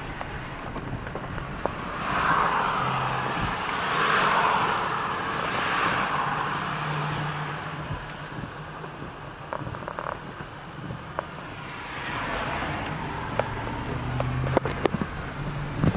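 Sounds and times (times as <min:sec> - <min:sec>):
low engine hum: 0:00.0 - 0:15.9.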